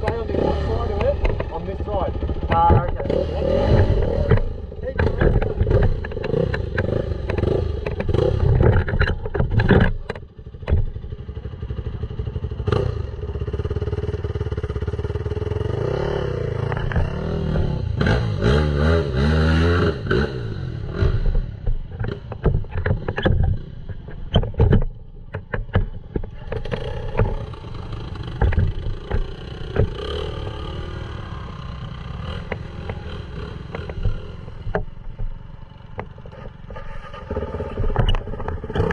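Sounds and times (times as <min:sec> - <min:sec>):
knocks and clatter from rough ground: 0:00.0 - 0:12.6, 0:16.6 - 0:18.2, 0:21.0 - 0:38.9
dirt bike engine revving: 0:00.0 - 0:24.4, 0:26.3 - 0:38.9.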